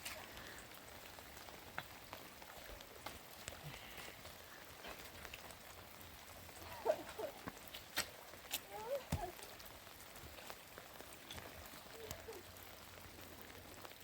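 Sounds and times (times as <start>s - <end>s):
rain hiss: 0.0s - 14.0s
raindrops ticking: 0.0s - 14.0s.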